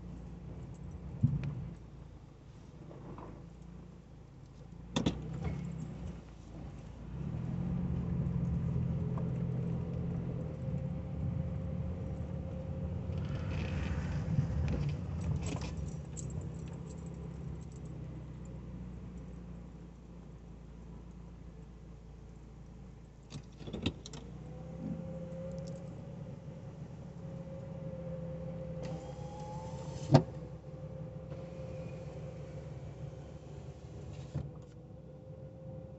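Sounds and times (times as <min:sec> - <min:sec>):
car engine hum from cabin: 0:00.0 - 0:35.9.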